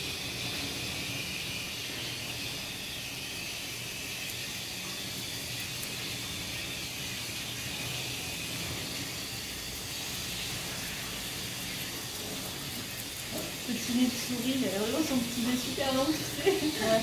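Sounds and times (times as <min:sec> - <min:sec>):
dryer airy hiss: 0:00.0 - 0:17.0.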